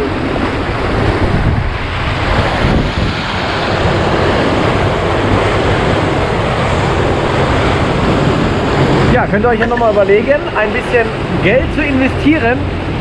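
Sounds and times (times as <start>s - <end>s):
boat engine hum: 0.0s - 13.0s
water rushing along boat hull: 0.0s - 13.0s
wind buffeting microphone: 0.0s - 13.0s.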